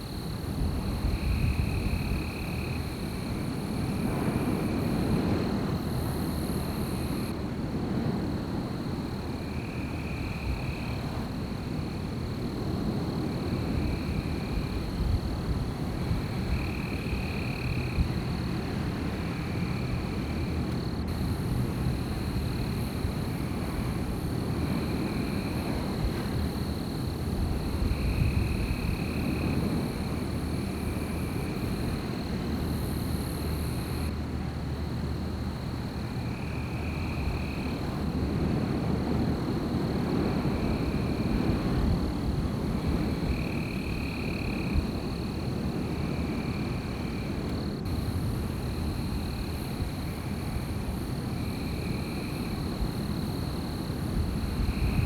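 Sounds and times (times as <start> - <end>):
wind blowing in gusts: 0.0 - 55.0.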